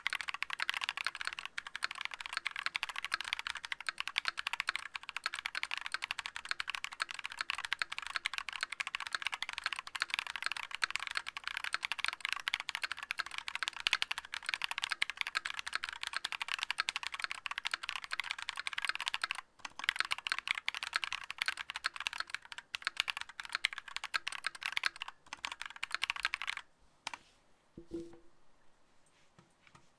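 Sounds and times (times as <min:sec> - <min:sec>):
typing on a mechanical keyboard: 0:00.0 - 0:27.2.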